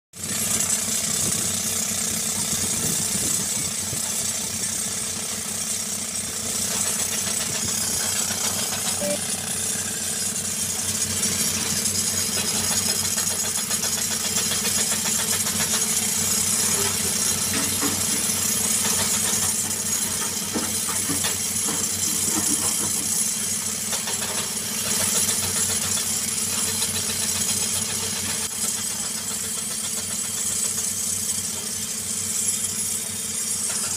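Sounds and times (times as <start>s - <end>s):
diesel engine running: 0.2s - 33.9s
pneumatic rock drill hammering: 0.2s - 33.9s.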